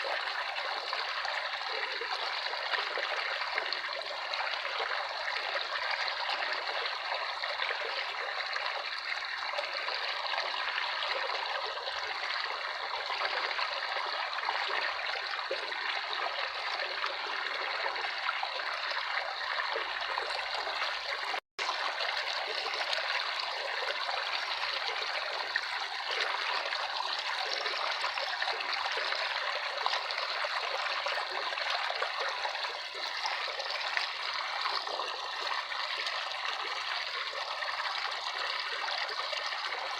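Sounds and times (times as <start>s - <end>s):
running water trickling and splashing: 0.0s - 39.9s.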